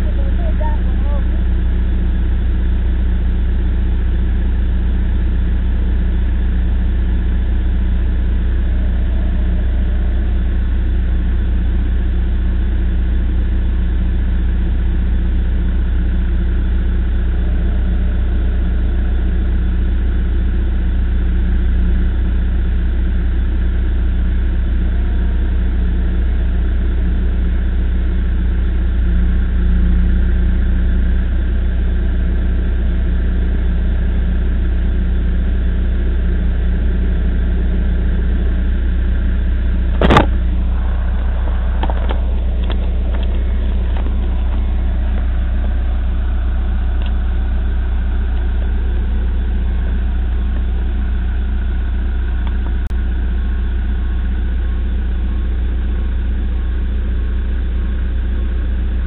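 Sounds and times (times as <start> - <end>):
backhoe engine running: 0.0 - 59.0.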